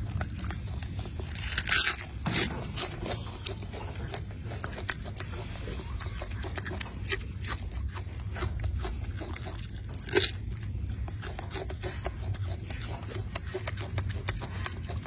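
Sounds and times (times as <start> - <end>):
monkey chewing crisp lettuce: 0.0 - 15.0.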